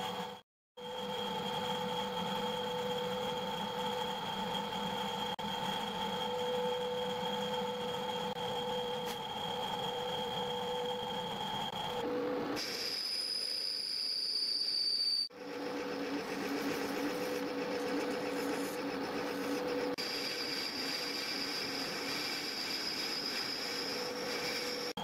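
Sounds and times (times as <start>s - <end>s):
metal lathe whining: 0.0s - 13.9s, 15.3s - 25.0s.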